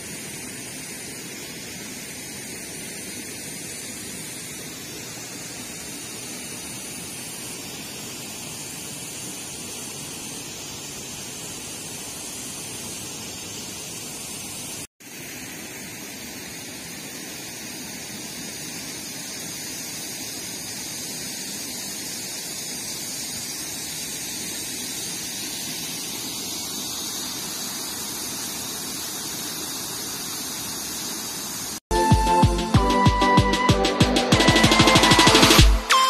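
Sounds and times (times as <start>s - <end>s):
water cascading into pond: 0.0s - 32.8s.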